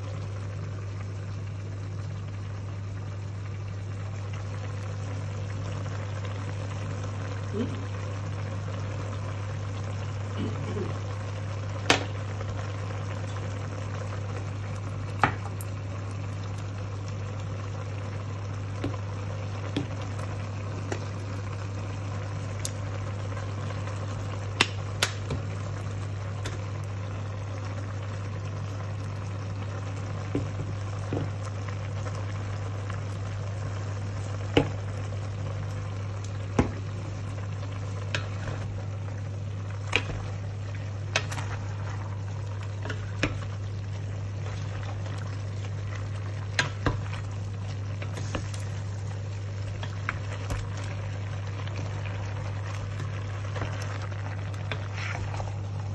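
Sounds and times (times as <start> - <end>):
pot simmering hiss: 0.0 - 55.9
steady low hum: 0.0 - 55.9.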